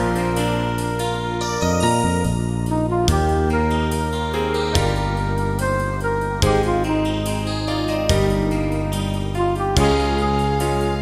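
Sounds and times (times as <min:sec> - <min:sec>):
steady synth bass: 0:00.0 - 0:11.0
synthesizer chords: 0:00.0 - 0:11.0.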